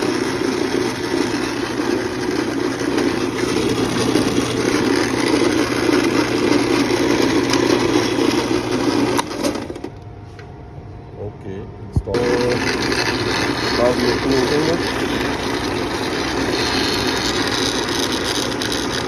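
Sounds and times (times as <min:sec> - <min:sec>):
garage door opener motor rattling: 0:00.0 - 0:10.0, 0:12.1 - 0:19.0.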